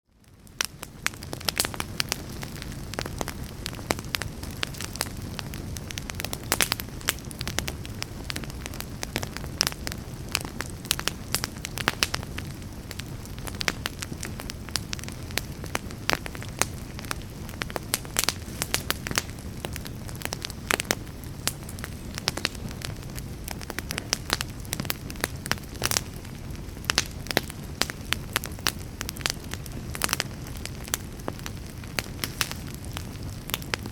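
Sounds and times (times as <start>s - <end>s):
wood fire crackling: 0.1s - 33.9s.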